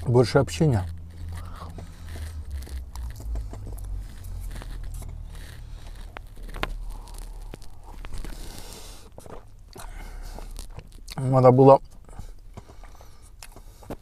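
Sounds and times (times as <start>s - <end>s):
close chewing with crunches: 0.0s - 11.3s, 11.9s - 14.0s
low steady hum: 0.0s - 14.0s.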